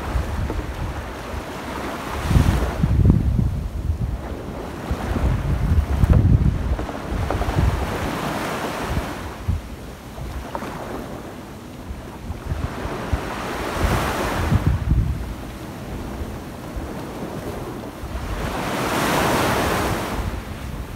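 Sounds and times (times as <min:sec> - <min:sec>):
small waves breaking on beach: 0:00.0 - 0:20.9
wind buffeting microphone: 0:00.0 - 0:20.9.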